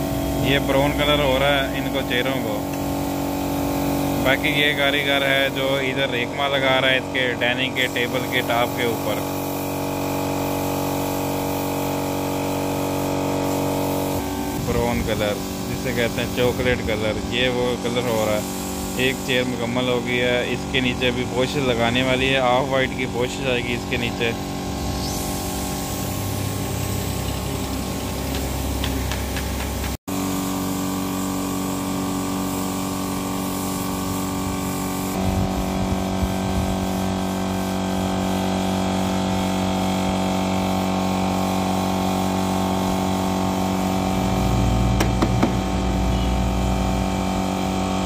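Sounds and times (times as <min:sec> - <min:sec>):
air compressor running: 0:00.0 - 0:48.0
spray gun hissing: 0:00.0 - 0:48.0.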